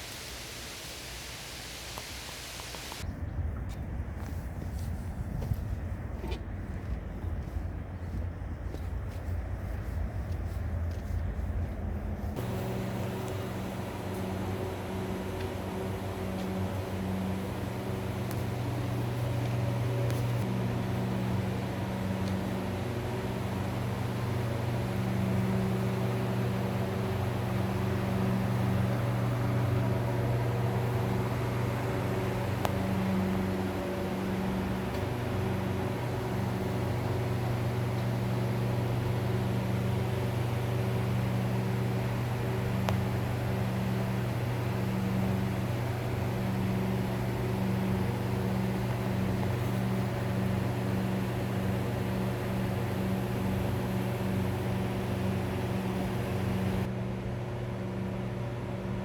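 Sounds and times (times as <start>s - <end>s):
low mechanical drone: 1.9s - 59.0s.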